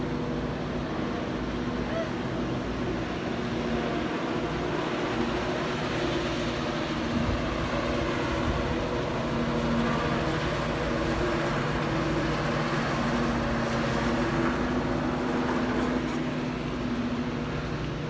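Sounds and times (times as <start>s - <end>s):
constant rushing noise: 0.0s - 18.0s.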